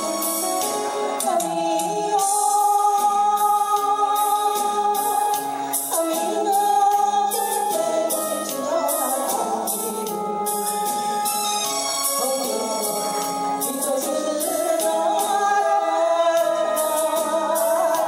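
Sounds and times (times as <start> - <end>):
karaoke backing track: 0.0 - 18.0
woman singing into microphone: 0.0 - 18.0.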